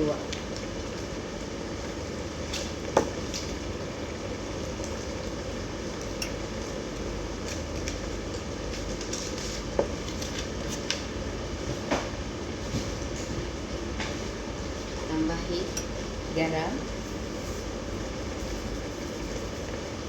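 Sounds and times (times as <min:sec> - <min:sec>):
food frying in a pot: 0:00.0 - 0:20.0.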